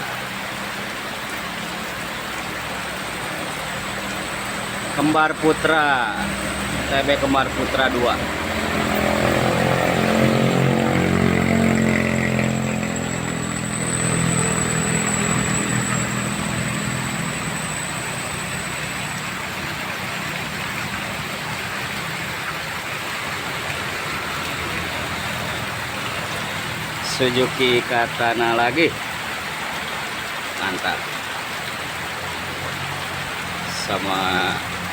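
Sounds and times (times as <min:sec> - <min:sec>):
heavy rain on wet road: 0:00.0 - 0:34.9
vehicle engine passing: 0:00.1 - 0:34.9.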